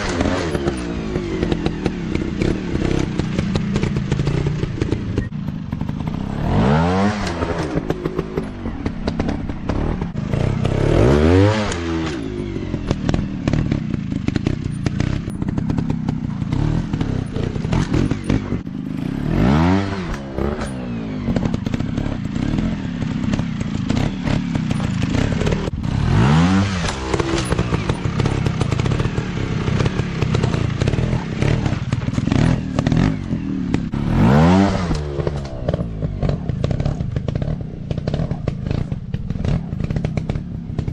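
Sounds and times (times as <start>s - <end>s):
dirt bike engine revving: 0.0s - 40.9s
engine clatter: 0.0s - 40.9s.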